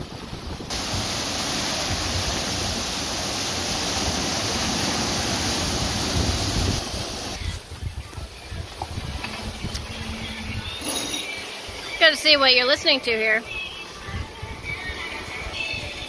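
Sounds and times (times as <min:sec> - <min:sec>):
rushing white water wake: 0:00.0 - 0:14.1.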